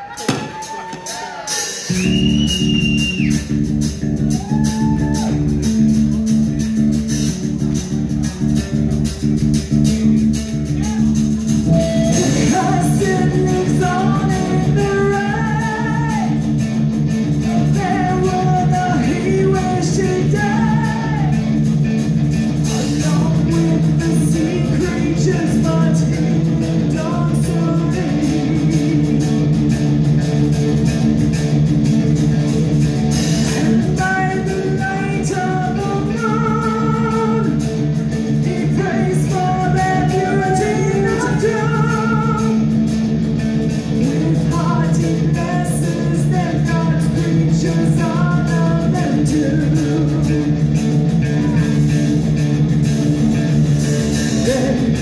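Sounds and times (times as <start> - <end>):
held low bass notes: 2.0 - 55.0
slow electric guitar melody: 5.1 - 55.0.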